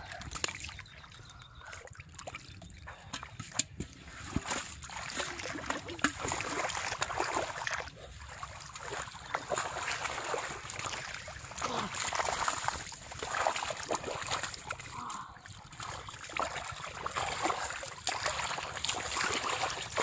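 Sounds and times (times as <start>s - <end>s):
muddy water splashing: 0.0s - 20.0s.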